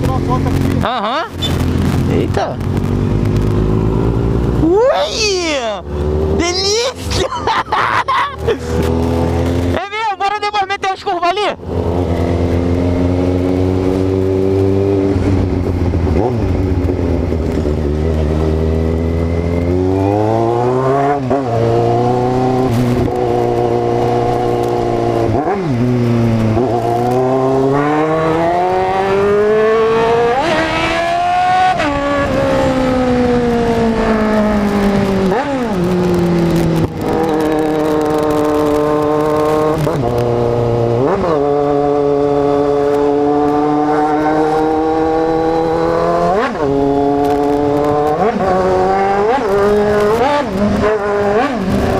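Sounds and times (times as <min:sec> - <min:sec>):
motorcycle engine revving through gears: 0:00.0 - 0:04.7, 0:05.7 - 0:06.5, 0:08.4 - 0:09.8, 0:11.6 - 0:51.9.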